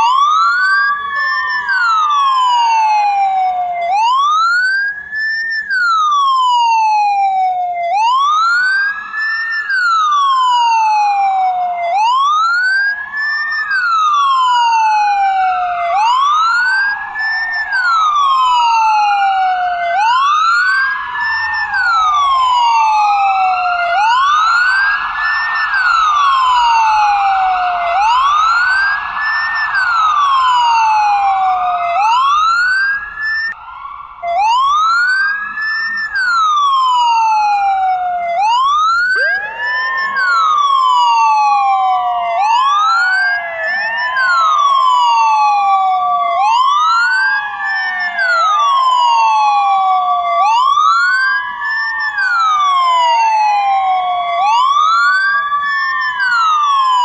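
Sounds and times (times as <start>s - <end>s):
ambulance siren wailing: 0.0s - 57.0s
second siren tone: 0.0s - 57.0s.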